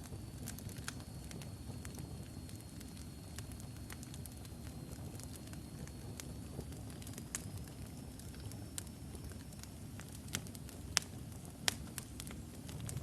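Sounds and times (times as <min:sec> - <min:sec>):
wood logs burning and crackling: 0:00.0 - 0:13.0.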